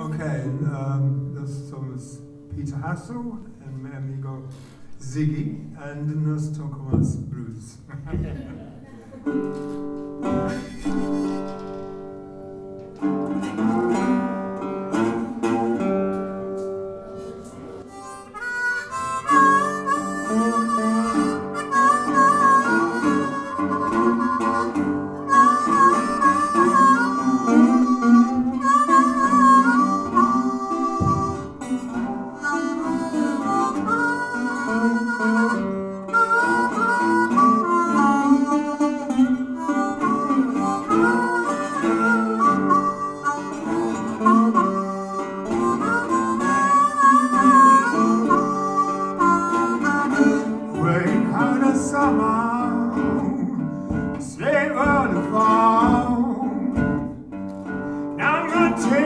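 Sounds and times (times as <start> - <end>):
resonator guitar blues: 0.0 - 59.0
harmonica bending notes: 9.2 - 59.0.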